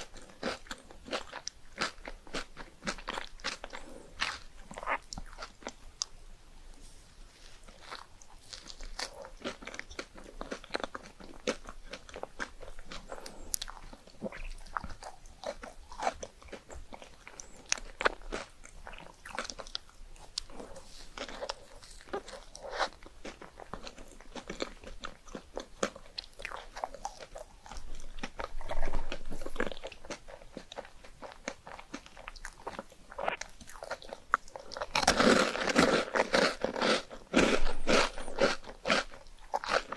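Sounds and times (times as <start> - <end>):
wet chewing: 0.0 - 6.2, 7.4 - 39.9
crunching bites: 7.7 - 39.9.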